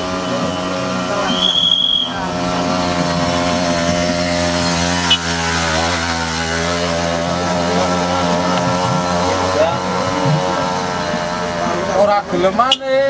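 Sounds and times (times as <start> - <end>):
motorcycle engine buzzing: 0.0 - 13.0.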